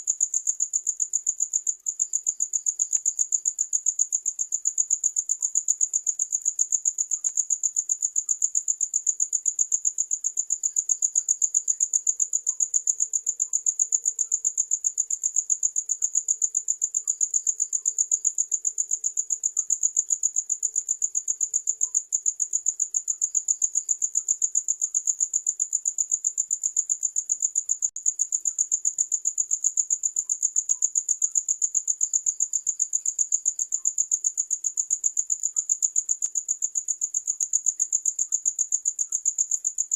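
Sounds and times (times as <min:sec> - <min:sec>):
faint chirps of other crickets: 0:00.0 - 0:39.9.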